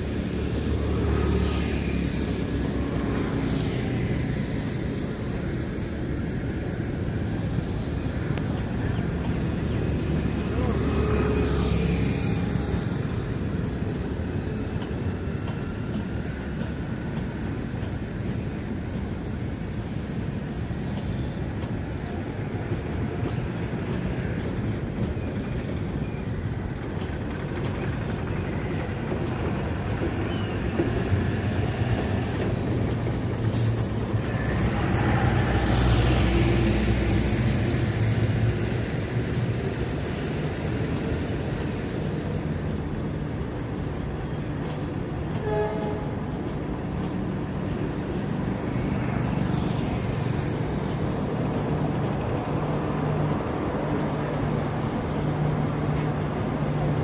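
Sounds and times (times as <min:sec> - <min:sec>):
train coaches rolling on rails: 0:00.0 - 0:57.0.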